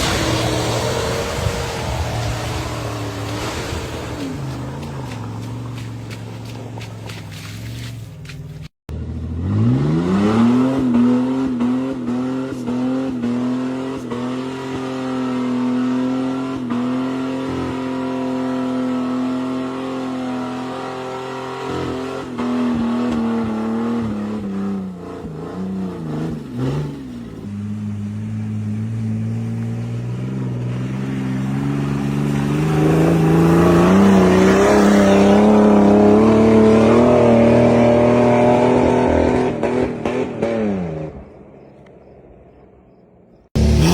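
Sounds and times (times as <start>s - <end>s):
off-road engine revving hard: 0.0s - 7.9s, 8.9s - 41.4s, 43.5s - 43.9s.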